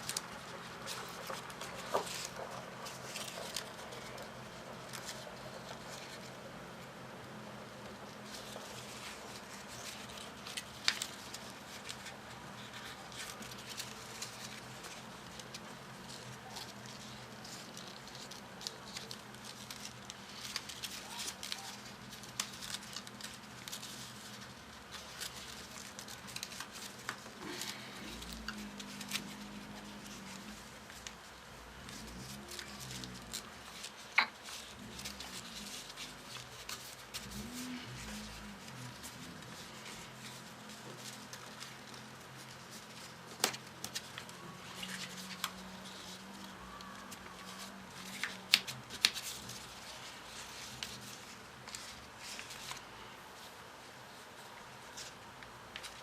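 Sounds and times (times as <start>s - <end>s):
paper rustling: 0.0s - 56.0s
light paper clicks: 7.7s - 53.5s.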